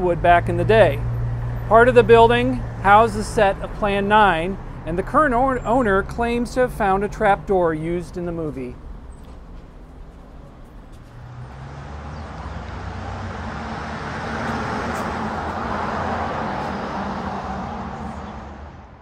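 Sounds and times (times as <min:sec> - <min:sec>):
low engine hum: 0:00.0 - 0:19.0
vehicle passing: 0:00.0 - 0:19.0.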